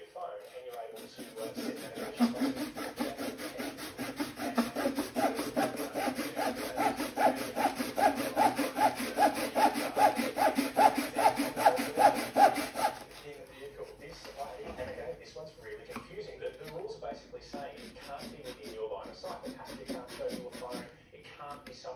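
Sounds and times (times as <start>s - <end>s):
hand saw cutting plastic: 0.0s - 13.9s, 15.8s - 20.9s.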